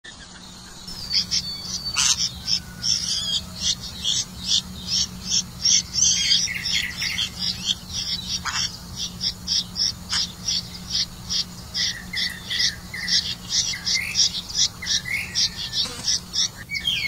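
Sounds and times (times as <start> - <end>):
nestlings begging chirps: 0.1 - 17.0.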